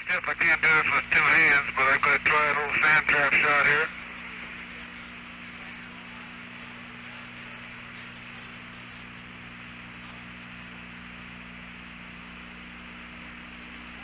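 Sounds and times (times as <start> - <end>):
radio hiss and hum: 0.0 - 14.0.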